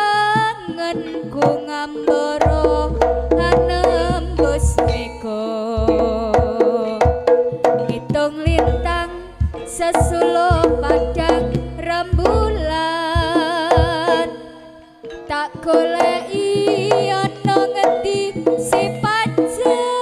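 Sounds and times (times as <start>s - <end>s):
ornamented lead melody: 0.0s - 20.0s
hand drum strokes: 0.4s - 14.5s, 15.6s - 20.0s.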